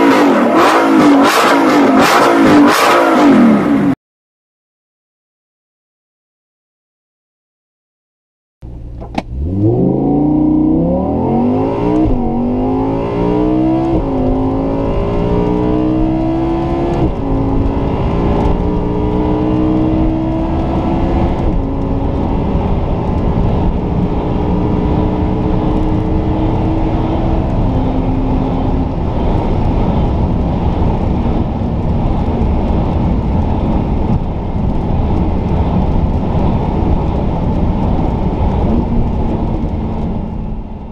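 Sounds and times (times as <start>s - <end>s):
car engine accelerating hard: 0.0s - 4.0s, 8.6s - 40.9s.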